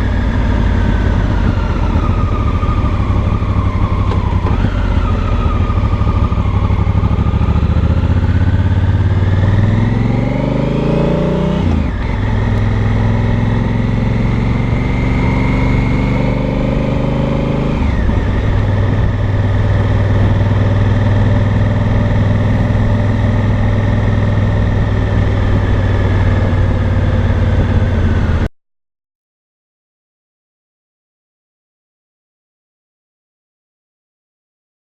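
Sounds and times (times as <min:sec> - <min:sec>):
motorcycle engine and exhaust: 0:00.0 - 0:28.5.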